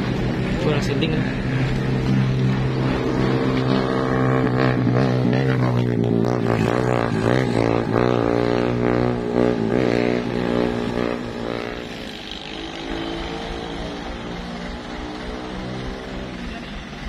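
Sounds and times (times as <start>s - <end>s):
vehicle engine running hard: 0.0s - 17.0s.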